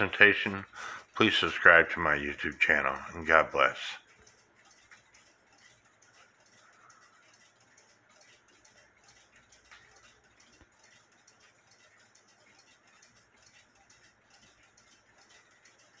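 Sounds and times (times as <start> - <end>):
pendulum clock ticking: 0.0 - 16.0.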